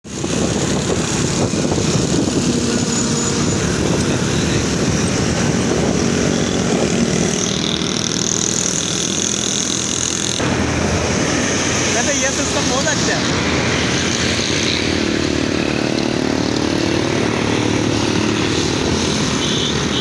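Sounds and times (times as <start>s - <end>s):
vehicle and road noise: 0.0s - 20.0s.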